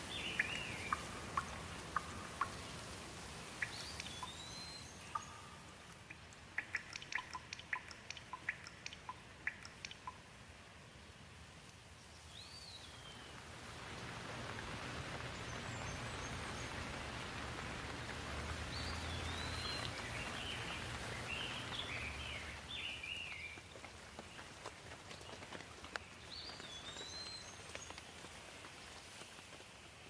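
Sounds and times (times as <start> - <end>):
birds chirping: 0.0 - 10.2, 14.0 - 28.2
rain falling: 0.0 - 30.0.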